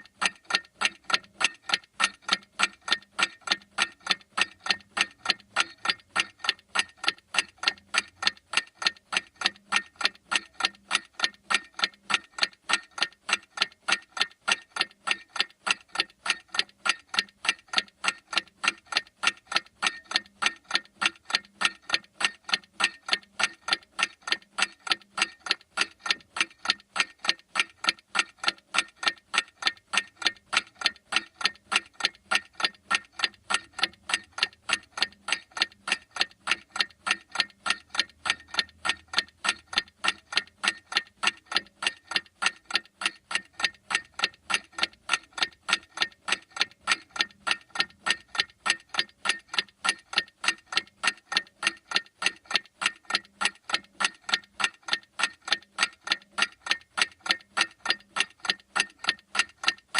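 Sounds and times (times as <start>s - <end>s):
mechanical clock ticking: 0.0s - 59.9s.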